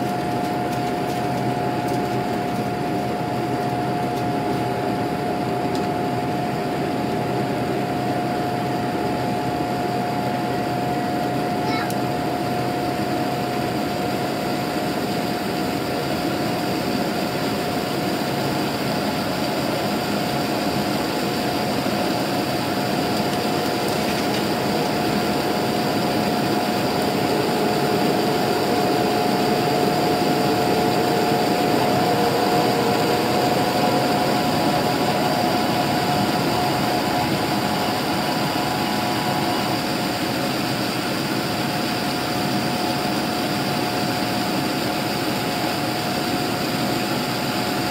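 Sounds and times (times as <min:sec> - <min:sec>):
jet engine drone with whine: 0:00.0 - 0:47.9.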